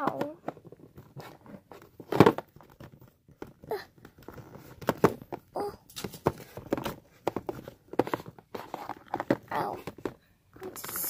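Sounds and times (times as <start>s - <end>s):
plastic toy clacks and knocks: 0.0s - 11.0s.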